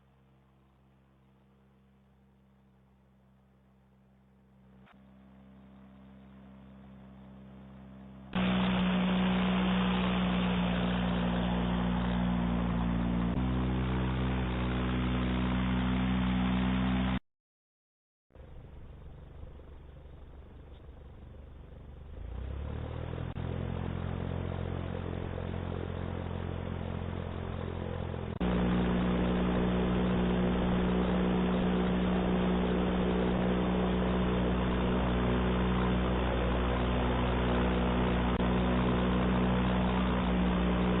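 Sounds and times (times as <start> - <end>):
airboat engine and propeller: 4.9 - 17.2, 18.4 - 41.0.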